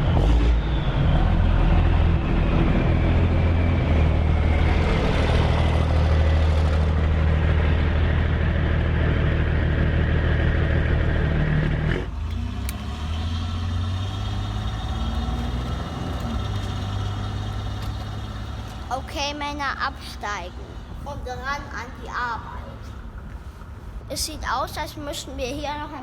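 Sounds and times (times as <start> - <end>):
truck engine running: 0.0 - 23.9.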